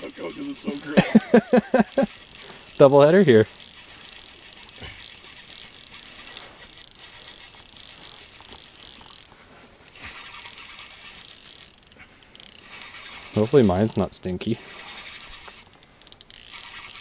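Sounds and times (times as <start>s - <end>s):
fishing reel gears ticking: 0.0s - 17.0s.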